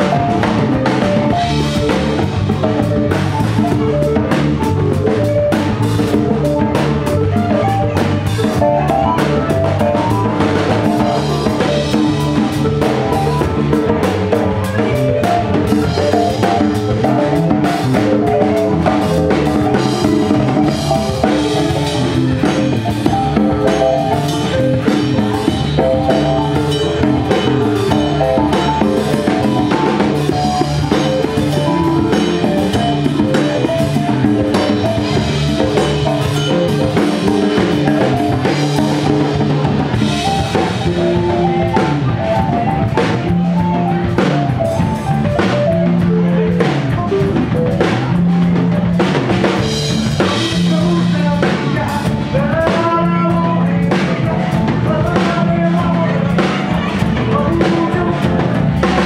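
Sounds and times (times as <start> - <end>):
drum kit beat: 0.0 - 59.0
electric bass: 0.0 - 59.0
keyboard: 0.0 - 59.0.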